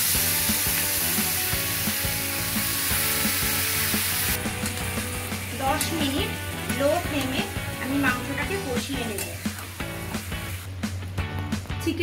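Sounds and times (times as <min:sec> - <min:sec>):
chicken sizzling in hot oil: 0:00.0 - 0:11.3
light background music: 0:00.0 - 0:12.0.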